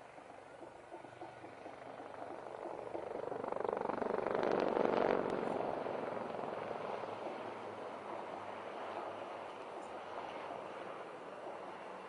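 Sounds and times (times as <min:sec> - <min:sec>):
helicopter rotor chop: 0:00.0 - 0:12.0.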